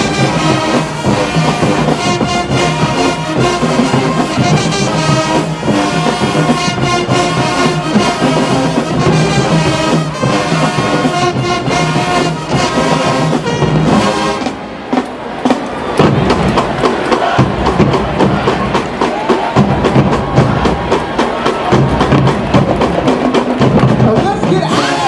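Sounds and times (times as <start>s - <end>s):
marching band brass: 0.0s - 25.0s
marching band drums: 0.0s - 25.0s.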